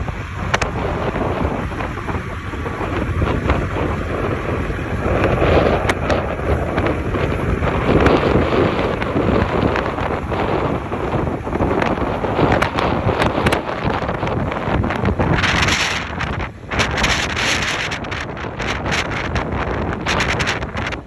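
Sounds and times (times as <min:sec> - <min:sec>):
storm wind buffeting microphone: 0:00.0 - 0:21.0.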